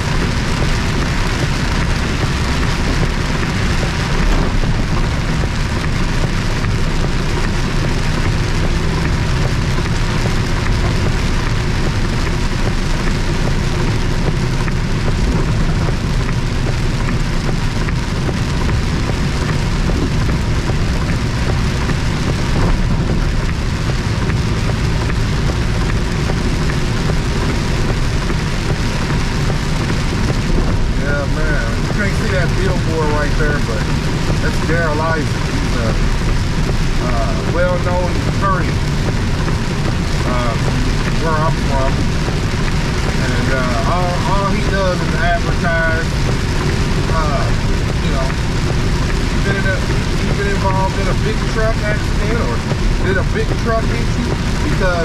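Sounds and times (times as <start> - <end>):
engine and road noise: 0.0 - 55.0
rain hitting truck cab: 0.0 - 55.0.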